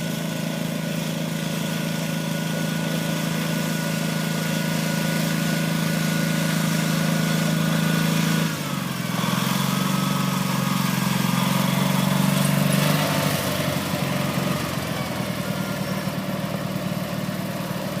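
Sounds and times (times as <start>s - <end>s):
garden tractor engine running: 0.0s - 18.0s.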